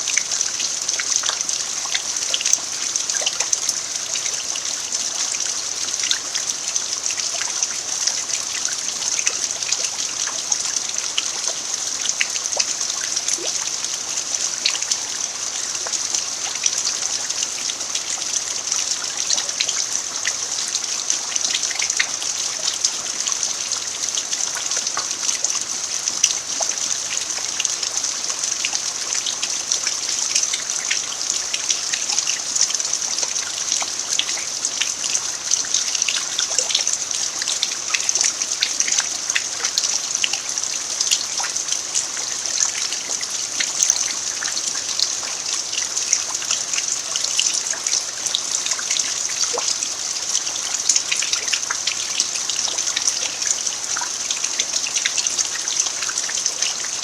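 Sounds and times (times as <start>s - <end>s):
rain falling on dirt: 0.0s - 57.0s.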